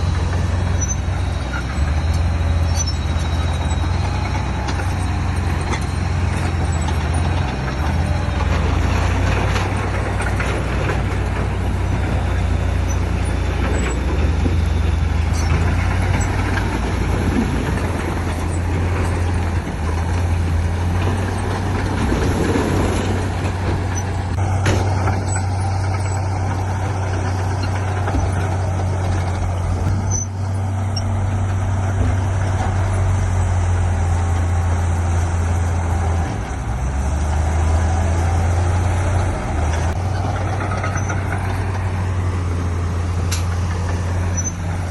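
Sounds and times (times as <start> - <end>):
heavy diesel machinery rumbling: 0.0 - 44.9.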